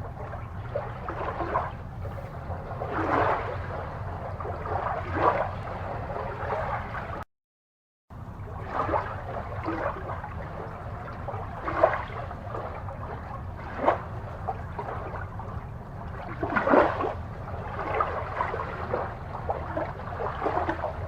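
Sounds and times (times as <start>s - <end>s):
steady low hum: 0.0s - 7.2s, 8.1s - 21.0s
water gurgling and bubbling: 0.0s - 7.2s, 8.2s - 21.0s.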